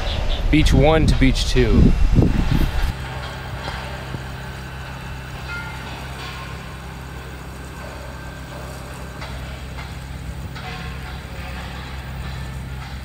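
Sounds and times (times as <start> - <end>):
distant engine droning: 0.0 - 13.0.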